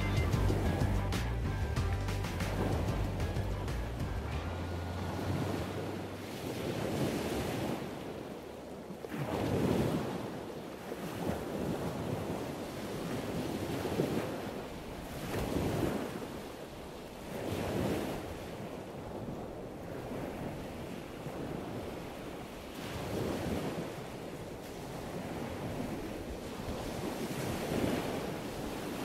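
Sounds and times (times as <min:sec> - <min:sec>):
ocean surf washing in: 0:00.0 - 0:08.5, 0:09.1 - 0:29.0
wind blowing across microphone: 0:05.0 - 0:29.0.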